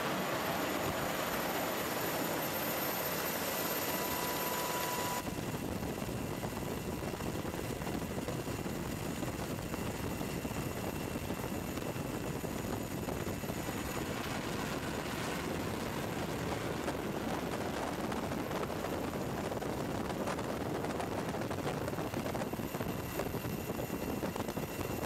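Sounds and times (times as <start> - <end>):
aircraft engine hum: 0.0 - 25.0.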